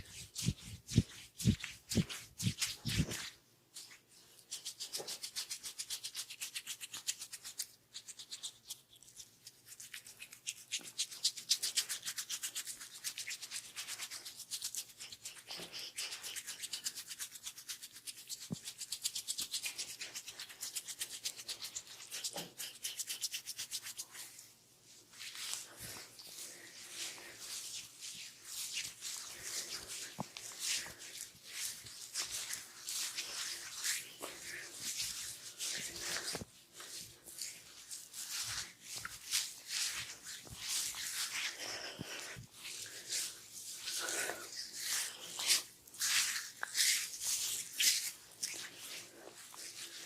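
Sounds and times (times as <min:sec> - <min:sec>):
hands rubbing oiled hair: 0:00.0 - 0:50.0.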